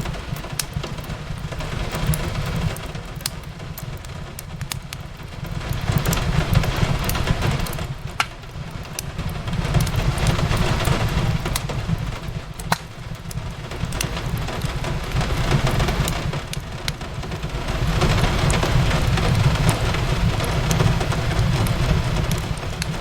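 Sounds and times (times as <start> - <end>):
rain on a window: 0.0 - 23.0
wood fire crackling: 0.0 - 23.0.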